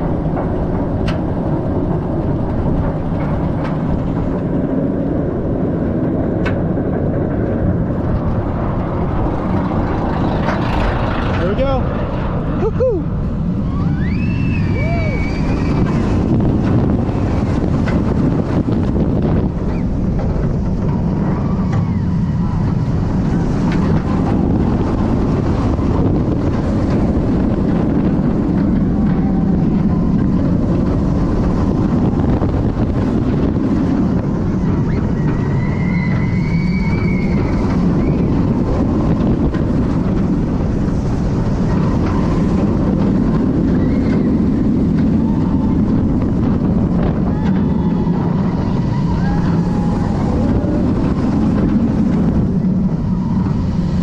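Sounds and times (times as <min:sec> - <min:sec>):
roller coaster train rumbling: 0:00.0 - 0:54.0
wind buffeting microphone: 0:00.0 - 0:54.0.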